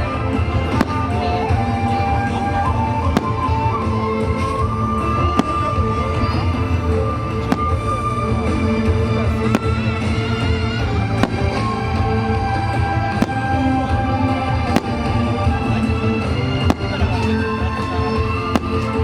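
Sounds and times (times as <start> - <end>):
music: 0.0 - 19.0
fireworks bangs: 0.5 - 1.7, 2.7 - 19.0.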